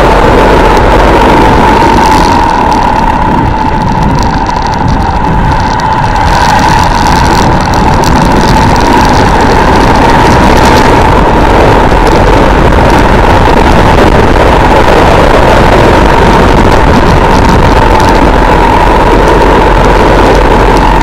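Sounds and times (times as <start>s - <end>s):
motorcycle engine riding uphill: 0.0s - 21.0s.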